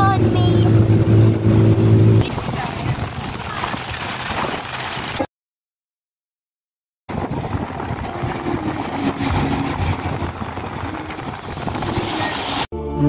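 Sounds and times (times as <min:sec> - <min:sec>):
speedboat engine running: 0:00.0 - 0:05.2, 0:07.1 - 0:12.7
water rushing past hull: 0:00.0 - 0:05.3, 0:07.1 - 0:12.7.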